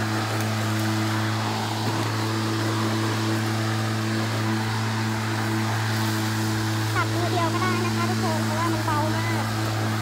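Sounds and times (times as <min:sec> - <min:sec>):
electric lawn mower running: 0:00.0 - 0:10.0.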